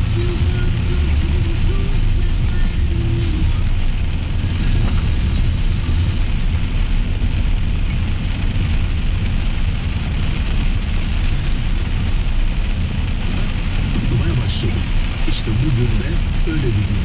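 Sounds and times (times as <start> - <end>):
rain and wet tyres hiss: 0.0 - 17.0
road and engine rumble: 0.0 - 17.0.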